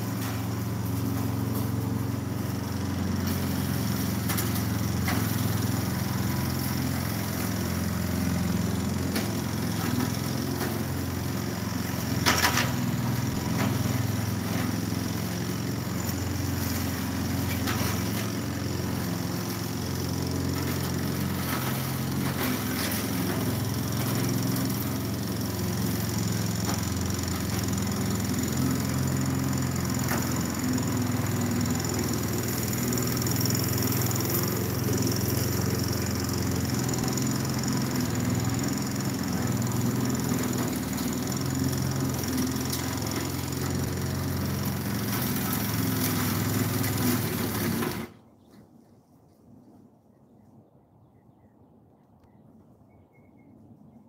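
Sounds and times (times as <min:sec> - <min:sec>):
lawn mower engine running: 0:00.0 - 0:48.2.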